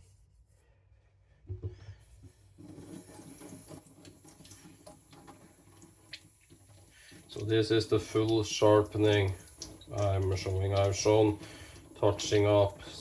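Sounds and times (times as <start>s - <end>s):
water trickling and splashing: 2.4s - 13.0s.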